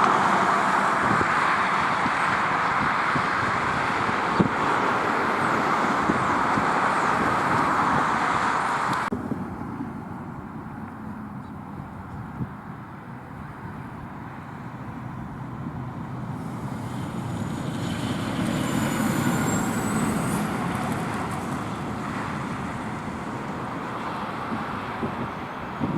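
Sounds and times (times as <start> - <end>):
passing traffic: 0.0 - 25.9.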